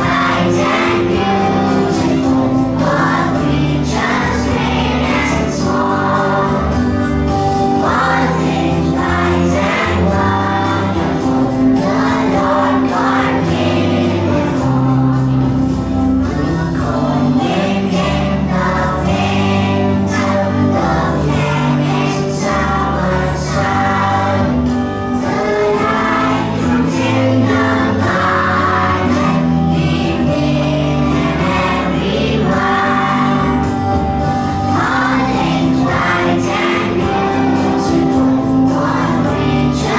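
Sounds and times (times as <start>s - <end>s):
choir singing: 0.0s - 39.9s
instrumental accompaniment: 0.0s - 39.9s.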